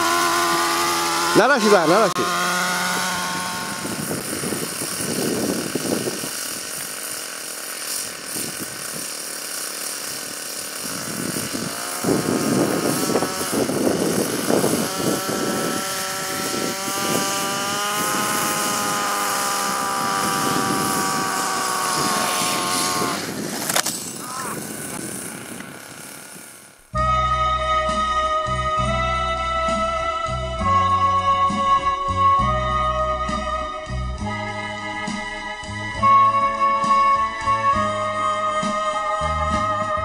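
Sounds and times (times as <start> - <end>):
model helicopter engine running: 0.0 - 40.0.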